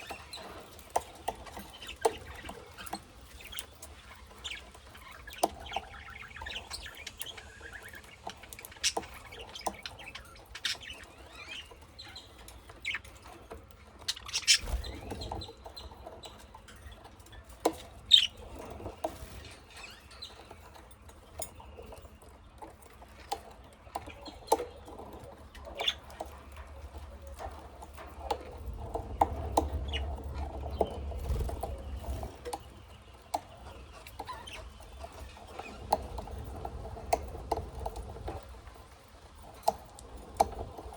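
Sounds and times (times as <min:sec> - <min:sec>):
cage birds chirping: 0:00.0 - 0:40.9.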